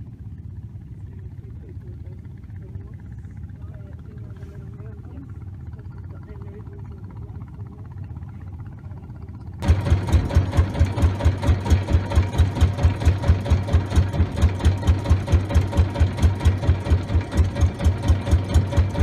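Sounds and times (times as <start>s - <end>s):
boat engine thudding: 0.2s - 19.0s.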